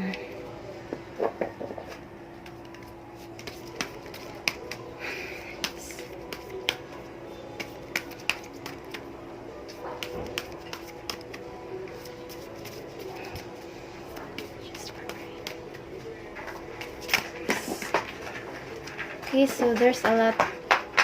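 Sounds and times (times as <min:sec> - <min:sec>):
cards being shuffled: 0:01.9 - 0:04.9, 0:05.5 - 0:07.0, 0:07.6 - 0:21.0.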